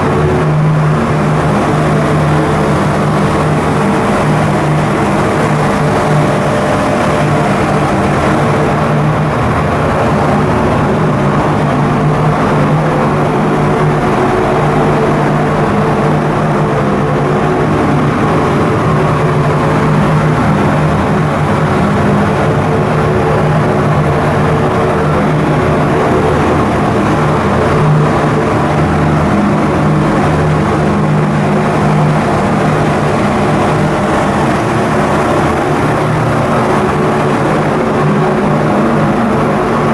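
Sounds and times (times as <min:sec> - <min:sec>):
ship diesel engine drone: 0:00.0 - 0:39.9.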